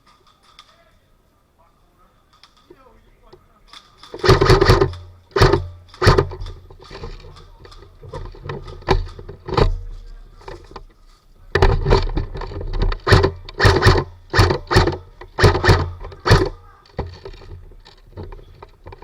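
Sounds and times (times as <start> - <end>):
rustling: 0.0 - 19.0
thumps: 2.4 - 19.0.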